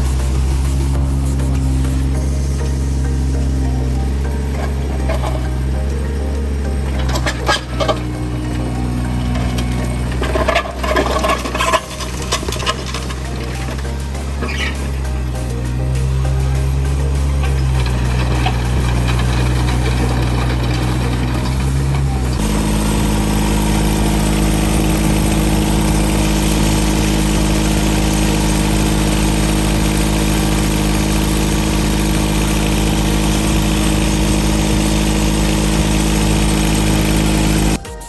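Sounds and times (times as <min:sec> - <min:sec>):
mini excavator engine running: 0:00.0 - 0:38.0.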